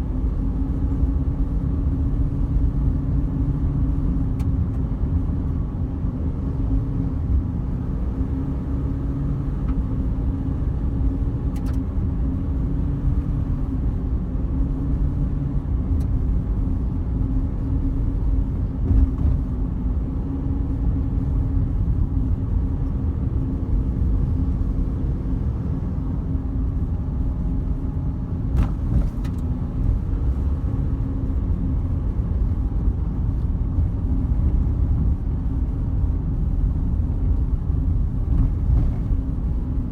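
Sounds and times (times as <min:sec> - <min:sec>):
road rumble: 0:00.0 - 0:39.9
car engine humming: 0:03.3 - 0:39.9.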